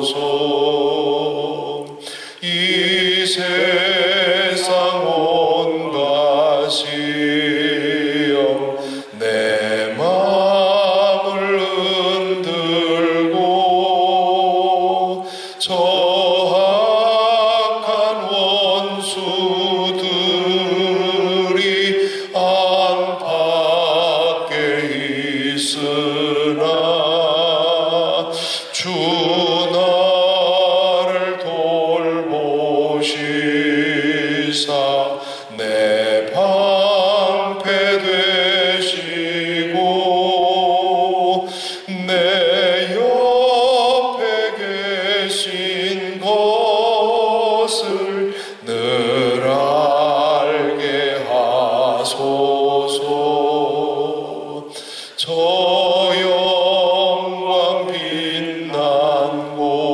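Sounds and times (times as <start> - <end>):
man singing a hymn with vibrato: 0.0 - 59.9.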